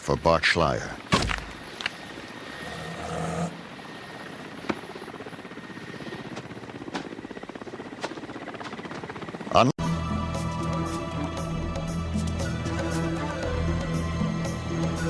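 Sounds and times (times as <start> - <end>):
helicopter rotor beating: 1.0 - 15.0.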